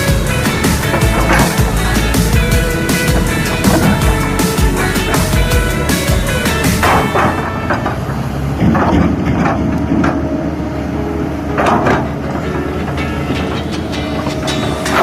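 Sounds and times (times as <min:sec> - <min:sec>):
bucket clanking and scraping soil: 0:00.0 - 0:10.4, 0:11.5 - 0:15.0
excavator diesel engine running: 0:00.0 - 0:15.0.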